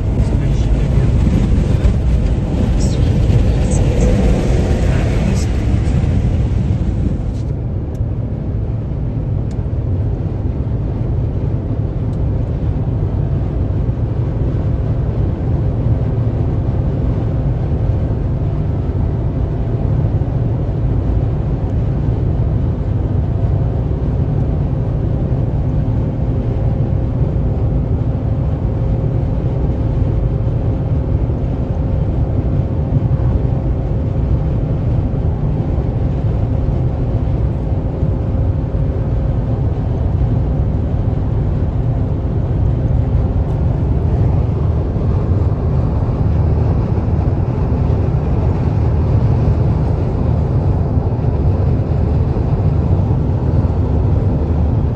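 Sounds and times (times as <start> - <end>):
car road noise rumble: 0.0 - 54.9.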